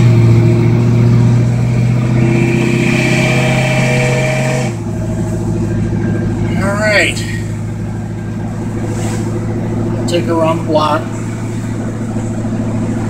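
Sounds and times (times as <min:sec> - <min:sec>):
pickup engine running: 0:00.0 - 0:13.0.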